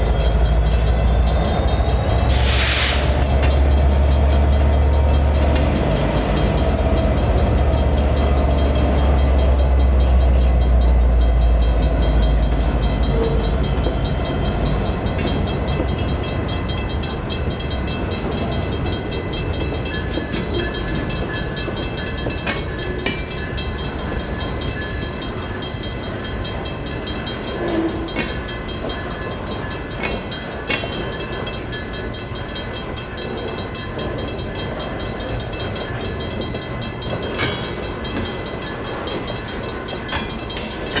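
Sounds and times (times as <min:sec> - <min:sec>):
diesel locomotive engine rumble: 0:00.0 - 0:41.0.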